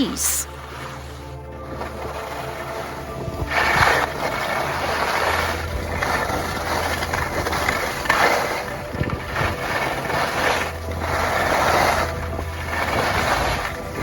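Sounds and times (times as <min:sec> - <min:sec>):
background music: 0:00.0 - 0:14.0
skis swishing on snow: 0:00.6 - 0:14.0.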